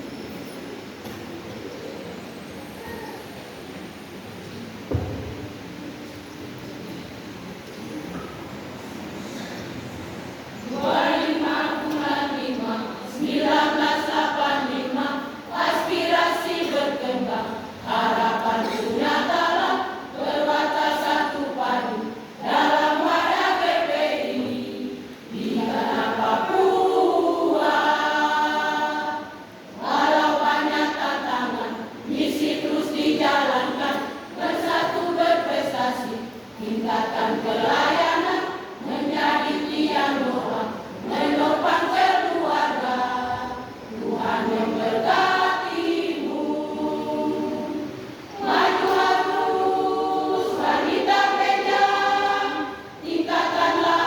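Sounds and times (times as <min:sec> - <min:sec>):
church choir singing a hymn: 0:10.5 - 0:54.0.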